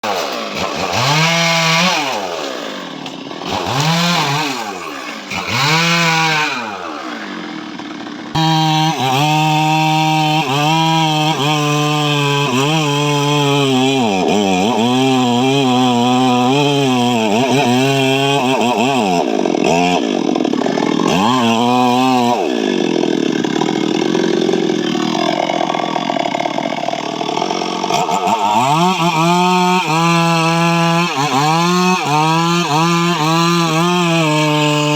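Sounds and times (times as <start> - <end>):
chainsaw revving and cutting wood: 0.0 - 34.9.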